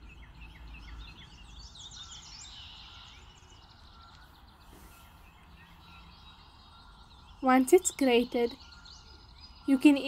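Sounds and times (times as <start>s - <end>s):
birds chirping and trilling: 0.0s - 10.0s.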